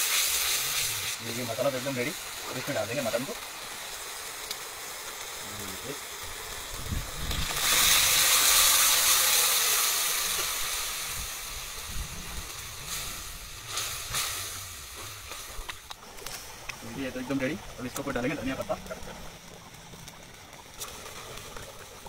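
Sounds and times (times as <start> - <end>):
curry hissing and sizzling in hot fat: 0.0 - 22.0.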